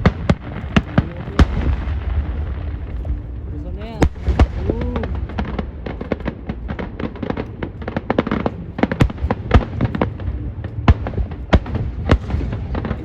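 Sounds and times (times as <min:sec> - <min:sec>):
fireworks bangs and crackles: 0:00.0 - 0:13.0
loud firework booms: 0:00.0 - 0:13.0
low rolling rumble: 0:00.0 - 0:13.0.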